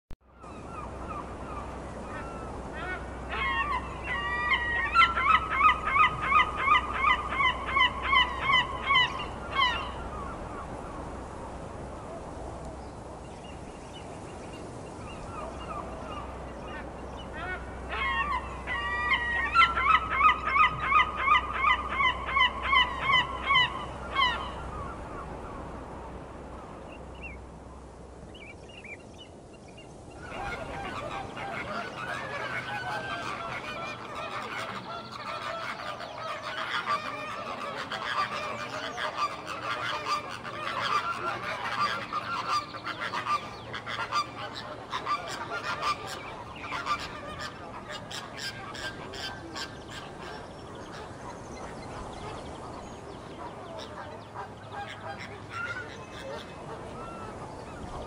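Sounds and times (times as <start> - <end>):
large waterfowl honking: 0.4 - 11.0, 15.1 - 25.7, 30.2 - 58.0.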